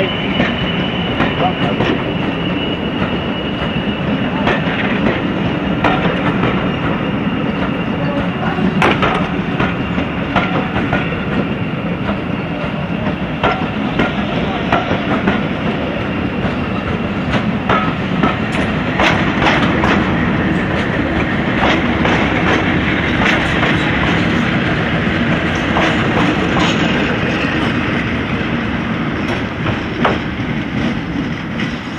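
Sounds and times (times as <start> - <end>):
diesel locomotive engine droning: 0.0 - 31.9
train wheels clicking over rail joints: 0.2 - 31.9.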